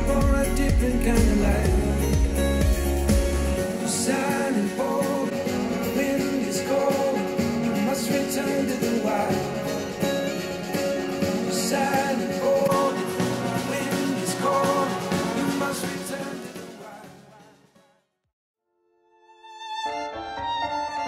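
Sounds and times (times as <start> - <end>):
rock music with guitar: 0.0 - 17.3.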